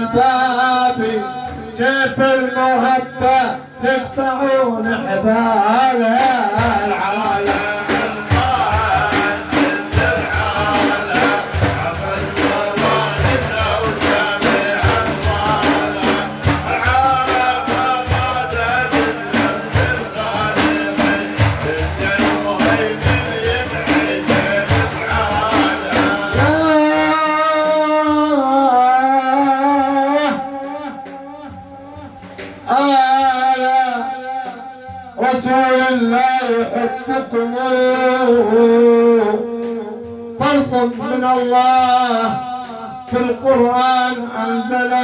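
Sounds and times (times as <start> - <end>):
devotional chanting: 0.0 - 45.0
fast hand drum strokes: 0.0 - 45.0.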